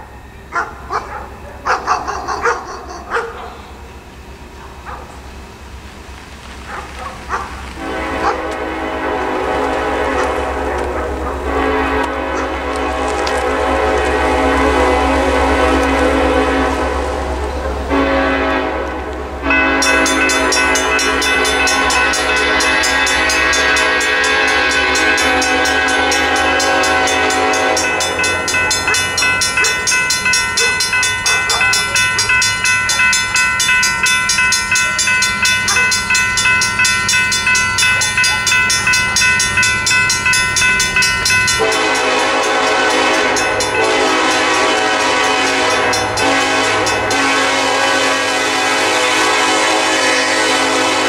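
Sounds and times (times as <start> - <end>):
railroad crossing bells ringing: 0.0 - 51.0
freight train horn blast: 7.3 - 51.0.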